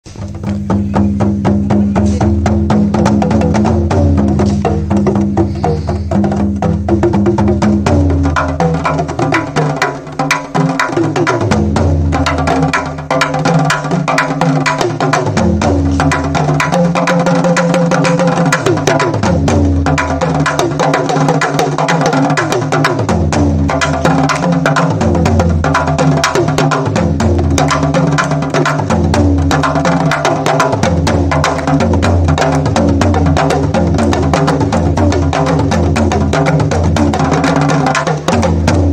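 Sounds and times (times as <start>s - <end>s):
hand drums: 0.0s - 38.9s
talking drum with pitch bends: 0.0s - 38.9s.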